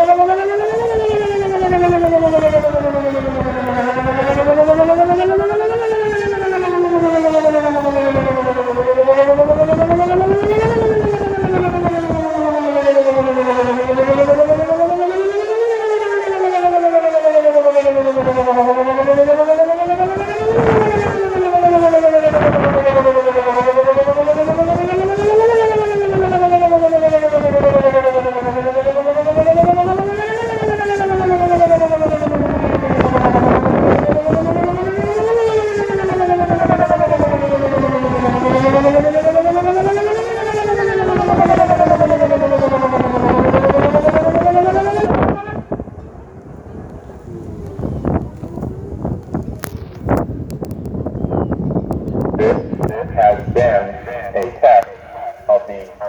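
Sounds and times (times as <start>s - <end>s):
warning siren wailing: 0.0s - 56.0s.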